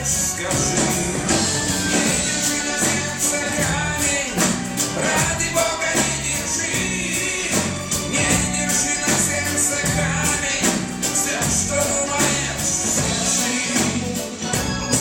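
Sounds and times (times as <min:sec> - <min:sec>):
drum kit beat: 0:00.0 - 0:15.0
person singing: 0:00.0 - 0:15.0
pop-rock band playing: 0:00.0 - 0:15.0.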